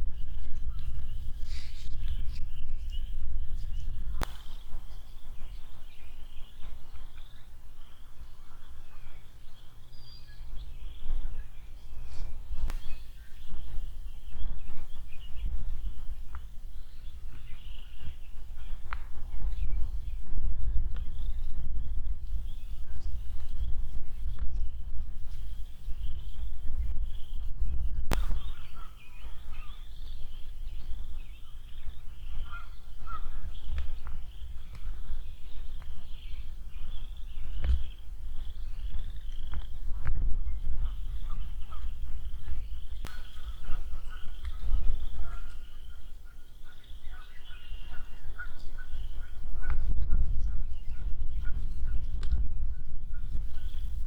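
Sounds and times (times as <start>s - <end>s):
small birds chirping faintly: 0.0s - 54.0s
wind buffeting microphone: 0.0s - 54.0s.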